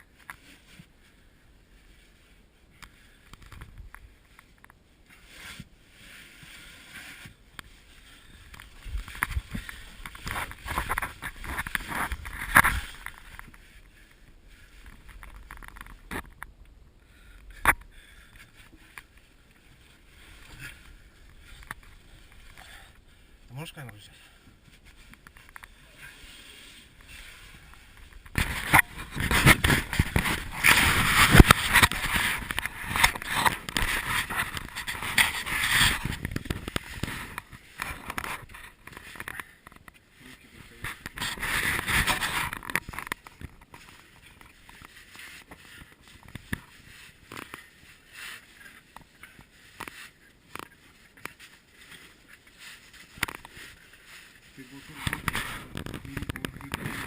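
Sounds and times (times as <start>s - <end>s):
handling noise scraping and rustling: 1.9s - 16.4s, 17.4s - 57.0s.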